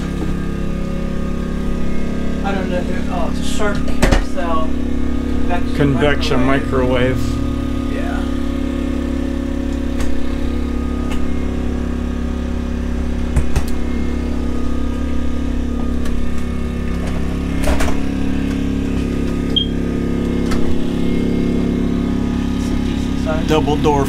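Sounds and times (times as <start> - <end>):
generator engine drone: 0.0 - 24.0.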